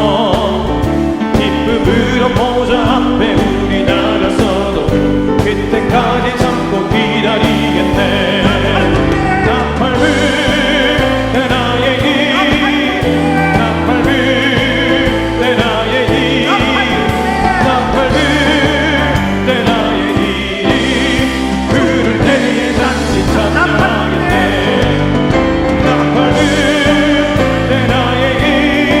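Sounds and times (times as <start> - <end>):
instrumental accompaniment: 0.0 - 29.0
congregation singing a hymn: 1.4 - 29.0.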